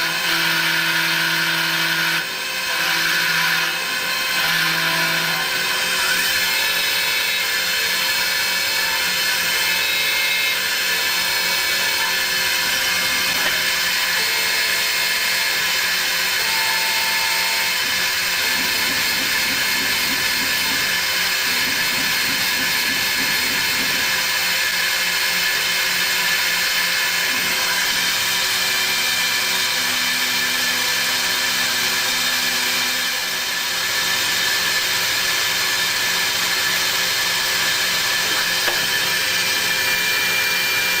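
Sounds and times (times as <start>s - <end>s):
lathe running: 0.0s - 41.0s.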